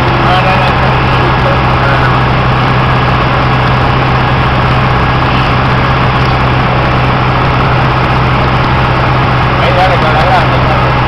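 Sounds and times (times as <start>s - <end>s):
airflow rush: 0.0s - 11.0s
light aircraft engine drone: 0.0s - 11.0s.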